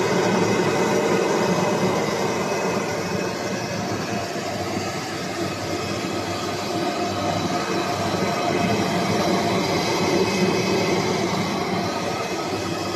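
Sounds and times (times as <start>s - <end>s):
waste shredder running: 0.0s - 12.9s.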